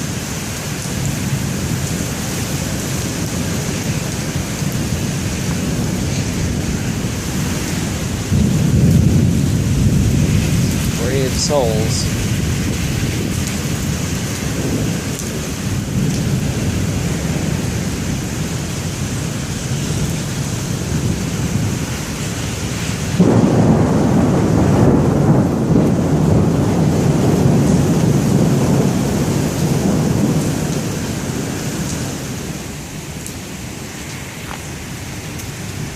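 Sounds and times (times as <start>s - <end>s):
heavy wind-driven rain: 0.0s - 35.9s
low thunder rumble: 0.0s - 35.9s.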